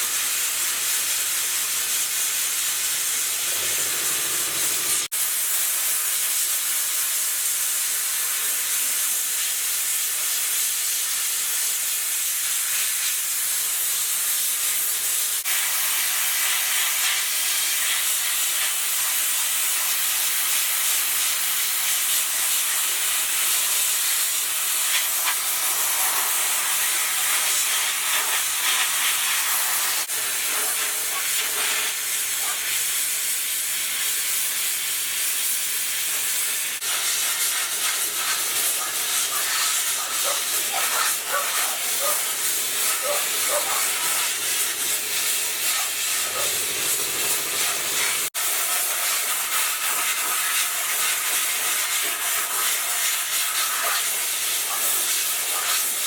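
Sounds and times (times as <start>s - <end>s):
steady loud hiss: 0.0s - 56.0s.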